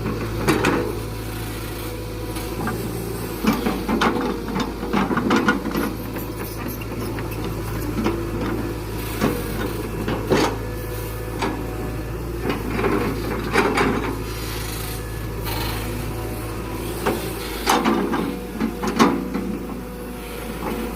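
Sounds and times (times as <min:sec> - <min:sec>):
excavator engine running: 0:00.0 - 0:20.9.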